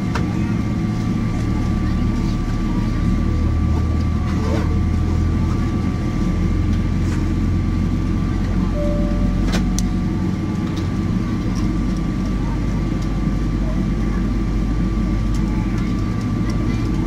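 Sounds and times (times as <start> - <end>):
airliner cabin rumble and hum: 0.0 - 17.0.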